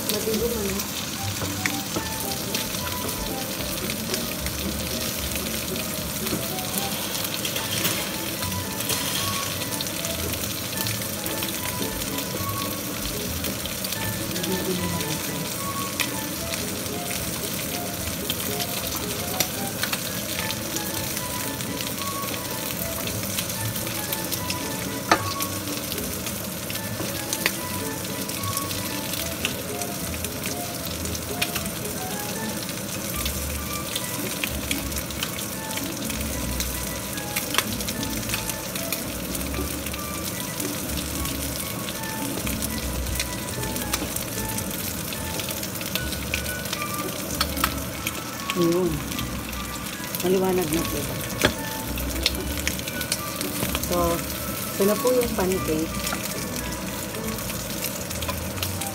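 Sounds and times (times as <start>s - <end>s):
pancakes sizzling in frying pan: 0.0s - 58.9s.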